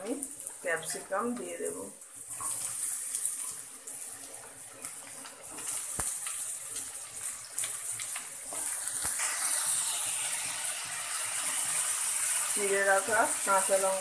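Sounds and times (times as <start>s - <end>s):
capsicum sizzling in oil: 0.0s - 14.0s.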